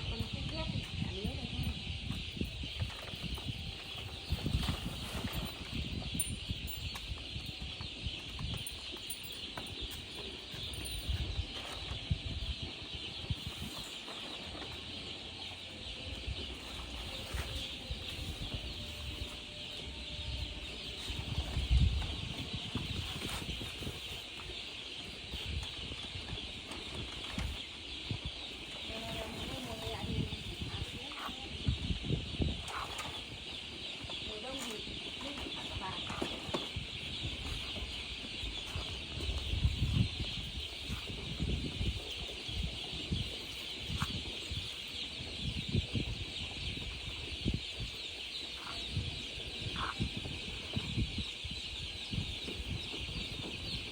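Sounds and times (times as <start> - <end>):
baby chicks peeping: 0.0 - 53.9.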